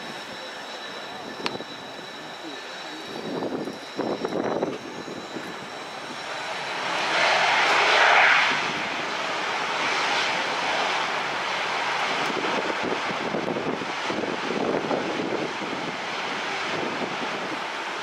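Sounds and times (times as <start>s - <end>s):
jet engines running up: 0.0s - 18.0s.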